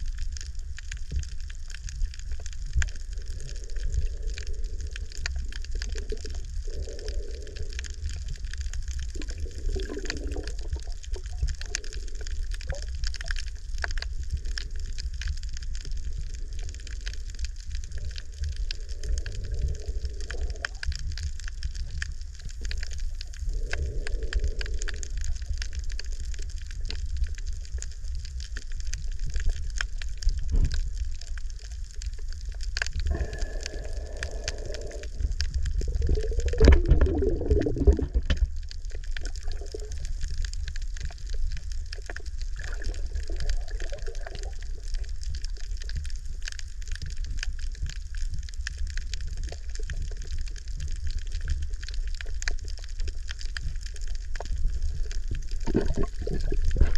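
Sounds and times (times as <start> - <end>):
fine crackling clicks: 0.0 - 56.9
muffled water swells: 0.0 - 56.9
underwater rumble of moving water: 0.0 - 56.9.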